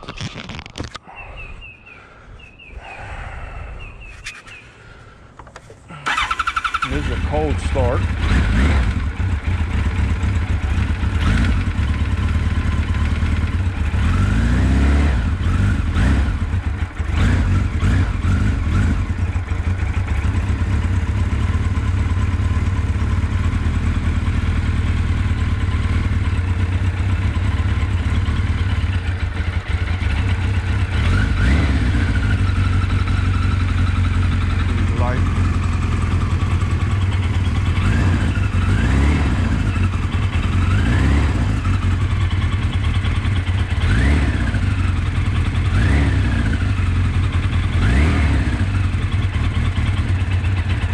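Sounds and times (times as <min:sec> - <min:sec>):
motorcycle engine idling and revving: 0:02.8 - 0:50.9.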